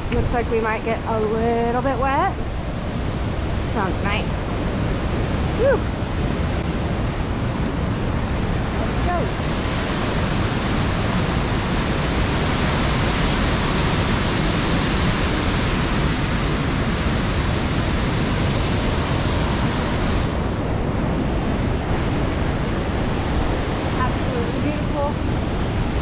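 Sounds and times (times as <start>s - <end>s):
waterfall rushing: 2.3s - 26.0s.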